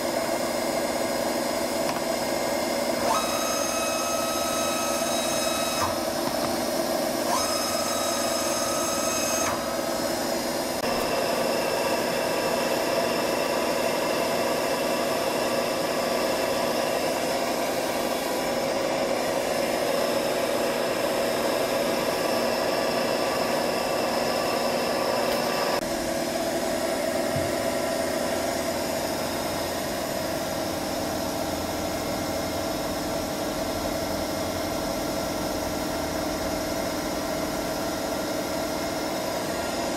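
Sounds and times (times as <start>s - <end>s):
milling machine hum: 0.0s - 39.9s.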